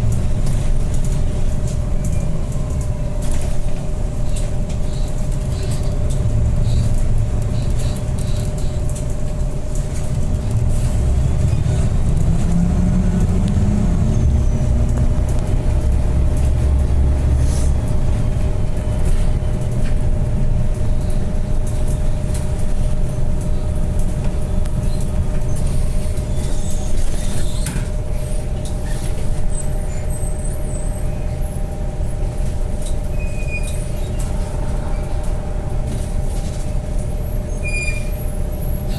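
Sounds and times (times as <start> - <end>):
bus engine rumbling: 0.0 - 38.9.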